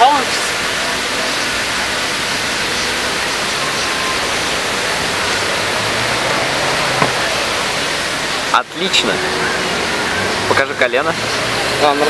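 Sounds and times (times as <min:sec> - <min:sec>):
fountain water spray hissing: 0:00.0 - 0:12.0.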